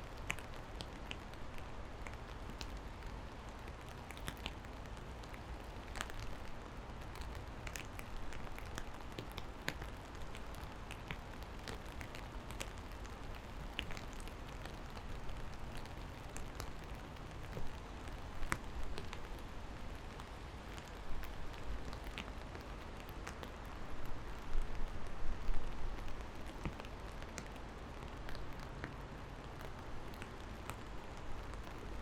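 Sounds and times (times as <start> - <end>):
rain drops ticking: 0.0 - 32.0.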